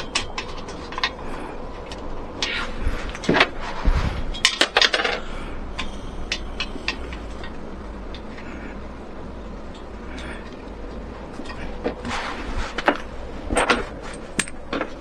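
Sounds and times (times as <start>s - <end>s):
sharp clicks and metallic clinks: 0.0s - 3.5s, 4.3s - 12.0s, 12.8s - 15.0s
steady low hum: 0.0s - 15.0s.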